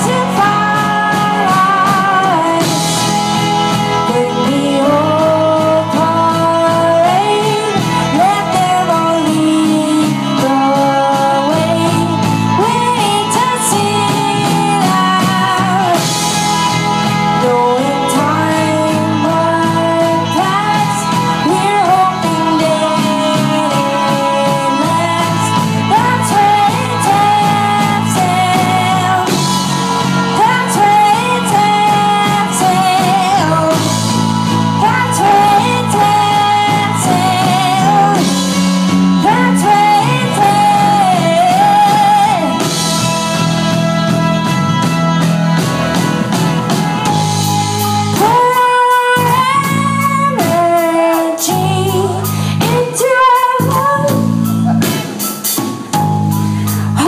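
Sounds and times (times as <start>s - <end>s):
woman singing: 0.0s - 44.9s, 46.9s - 55.2s, 56.0s - 57.0s
live pop band playing: 0.0s - 57.0s.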